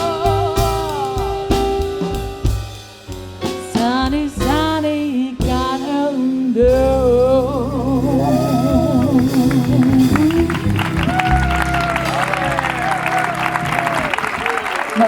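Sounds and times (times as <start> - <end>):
bass: 0.0 - 15.0
drums: 0.0 - 15.0
piano: 0.0 - 15.0.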